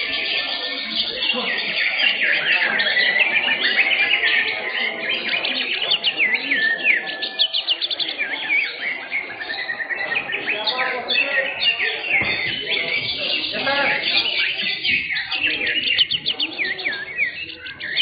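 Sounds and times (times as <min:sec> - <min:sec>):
caged songbirds singing: 0:00.0 - 0:18.0
murmur of voices: 0:00.0 - 0:18.0.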